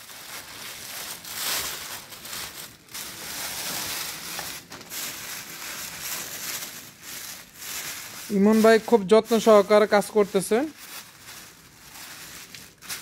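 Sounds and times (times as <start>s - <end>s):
plastic sheet crinkling: 0.0s - 13.0s.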